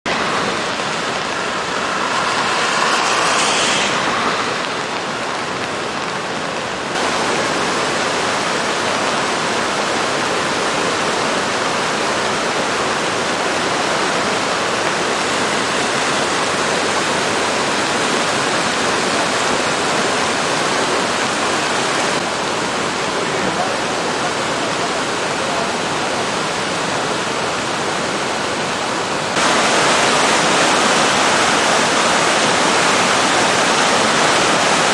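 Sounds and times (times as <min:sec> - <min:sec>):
river water rushing over rapids: 0:00.1 - 0:34.9.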